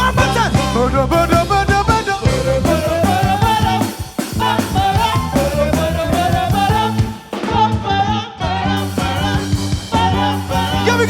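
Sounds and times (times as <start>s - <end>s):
live band playing upbeat groove: 0.0s - 11.0s
person singing: 0.0s - 11.0s.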